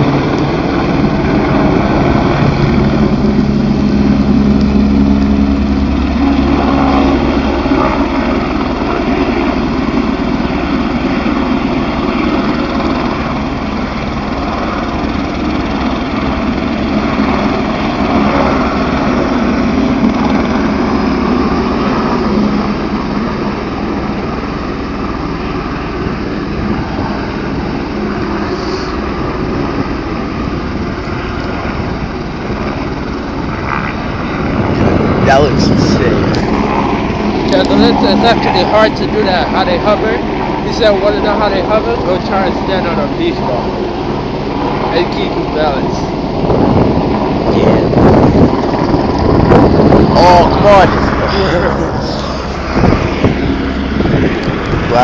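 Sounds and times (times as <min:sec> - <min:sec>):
constant rushing noise: 0:00.0 - 0:55.0
light aircraft engine running: 0:00.0 - 0:55.0.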